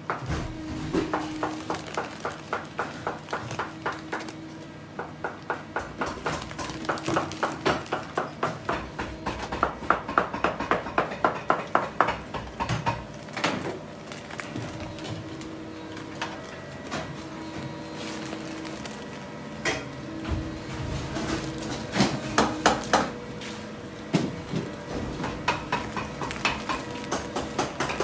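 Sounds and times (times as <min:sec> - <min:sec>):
faint machine hum: 0:00.0 - 0:28.0.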